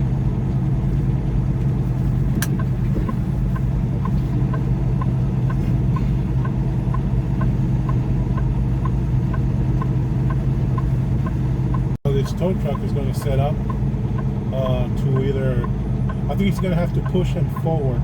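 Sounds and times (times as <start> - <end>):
diesel engine idling: 0.0 - 18.0
light regular ticking: 2.4 - 18.0.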